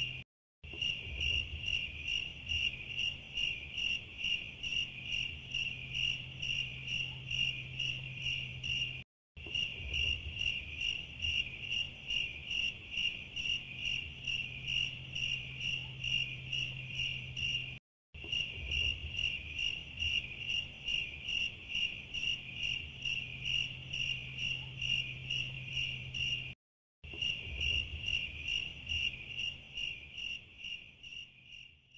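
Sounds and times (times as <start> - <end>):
cricket chirping: 0.0 - 31.9.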